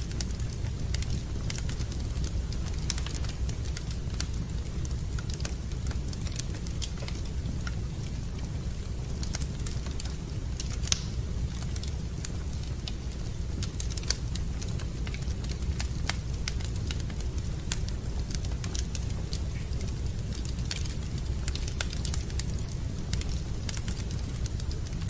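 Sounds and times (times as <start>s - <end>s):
fire crackling in fireplace: 0.0s - 25.0s.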